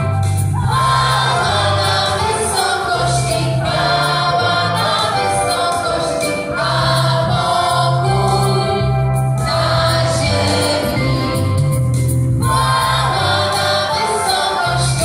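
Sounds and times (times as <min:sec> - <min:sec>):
mixed choir singing: 0:00.6 - 0:11.7, 0:12.4 - 0:15.0.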